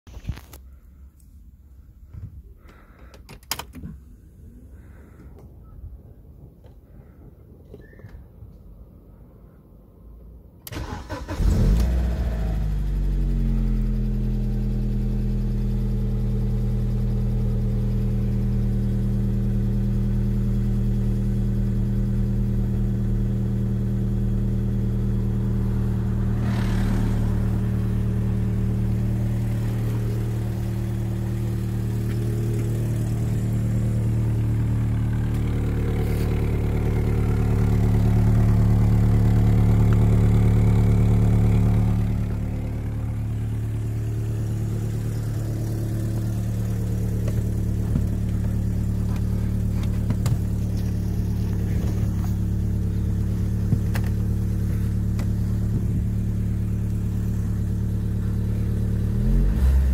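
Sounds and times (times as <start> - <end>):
car engine starting and idling: 0.1 - 9.1, 10.2 - 59.9.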